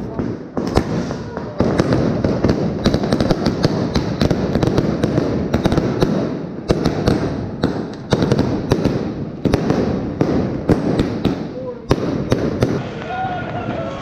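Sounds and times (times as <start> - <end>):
firecrackers banging: 0.0 - 14.0.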